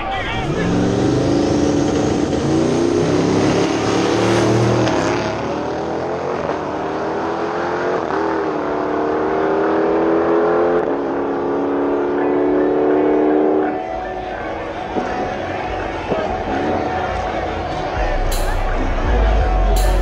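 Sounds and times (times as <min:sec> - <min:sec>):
race car engines at full throttle: 0:00.0 - 0:19.9.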